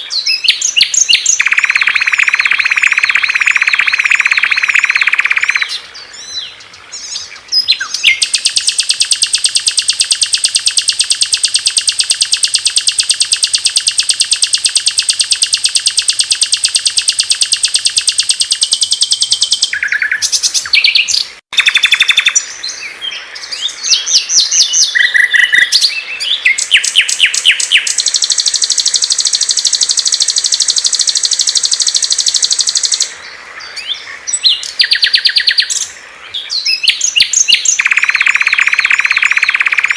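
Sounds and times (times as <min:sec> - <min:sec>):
songbird chirps: 0:00.0 - 0:39.9
songbird fast trill: 0:00.0 - 0:39.9.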